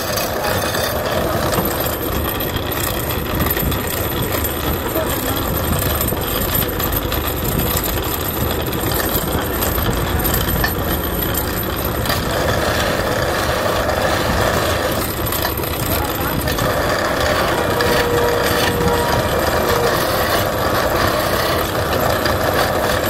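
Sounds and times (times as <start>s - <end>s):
chisel scraping spinning wood: 0.0s - 23.0s
wood lathe running: 0.0s - 23.0s.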